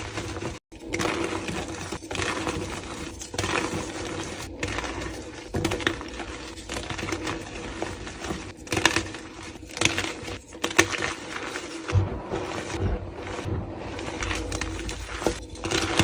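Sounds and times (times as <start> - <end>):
chalk being crushed: 0.0 - 16.0.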